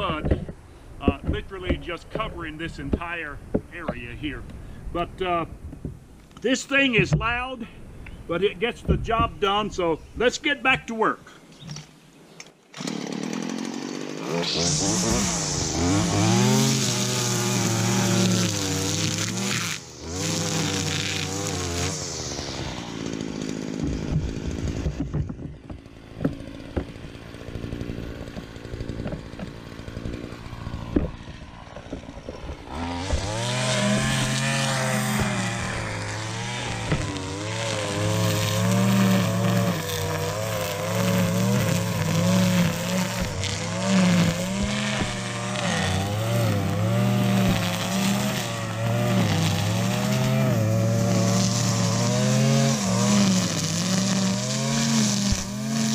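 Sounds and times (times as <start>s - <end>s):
string trimmer engine: 0.0s - 5.4s, 12.7s - 55.9s.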